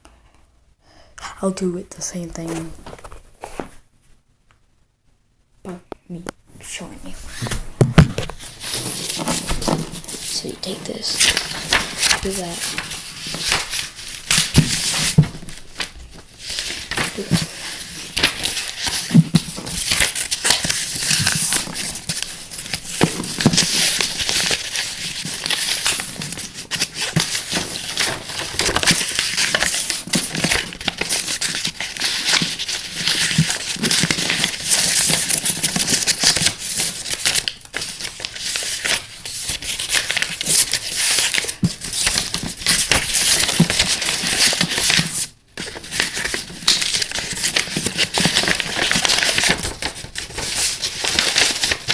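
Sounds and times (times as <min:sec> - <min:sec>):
paper crinkling and rustling: 0:02.4 - 0:03.8, 0:07.2 - 0:51.9.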